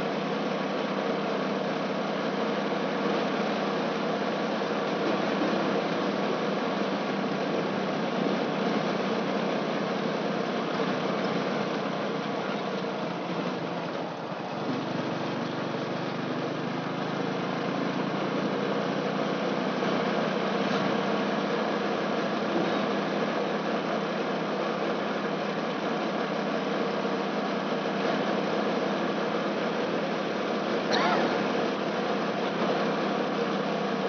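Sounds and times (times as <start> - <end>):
road and wind noise: 0.0 - 34.0
vehicle engine running: 0.0 - 34.0.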